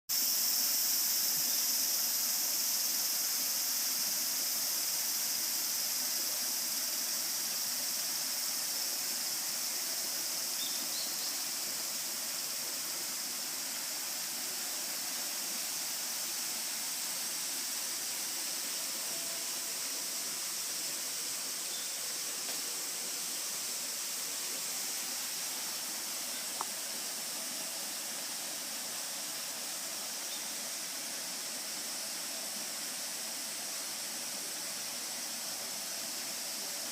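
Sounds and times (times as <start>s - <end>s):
cicadas buzzing: 0.1s - 36.9s.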